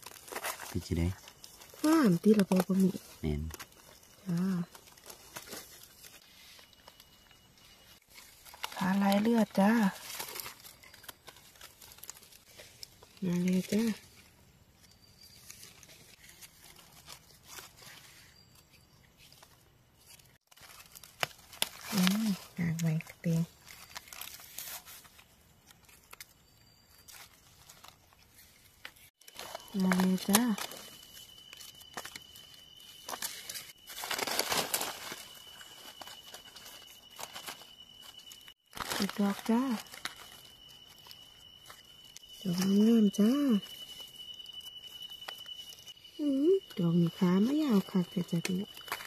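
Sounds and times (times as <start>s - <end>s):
rustling of dry leaf litter: 0.0s - 49.0s
faint steady high tone: 0.5s - 49.0s.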